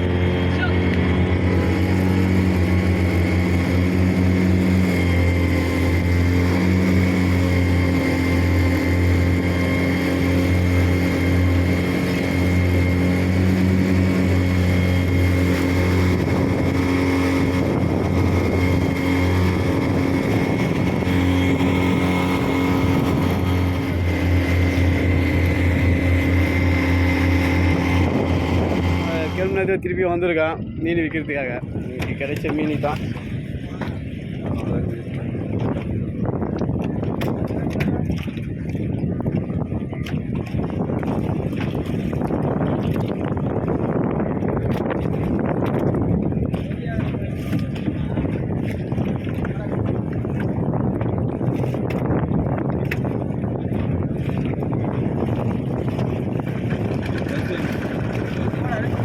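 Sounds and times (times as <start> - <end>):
boat motor droning: 0.0 - 59.0.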